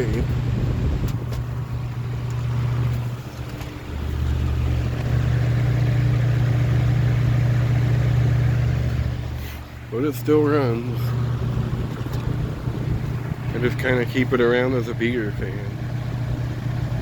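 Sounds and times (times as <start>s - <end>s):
box fan motor humming: 0.0s - 17.0s.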